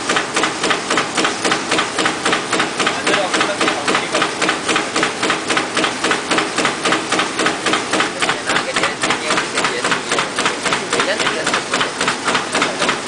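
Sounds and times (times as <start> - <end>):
cutting machine clatter: 0.0 - 13.0
machine running noise: 0.0 - 13.0.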